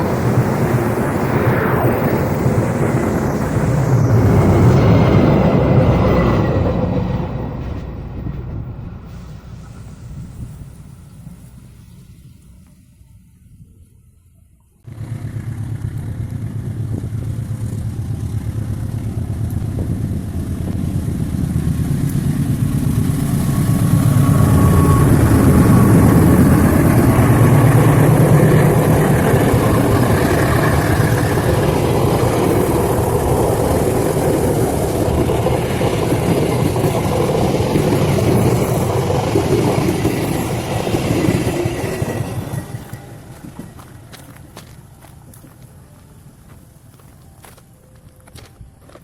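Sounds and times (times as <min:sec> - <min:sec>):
locomotive engine running: 0:00.0 - 0:49.0.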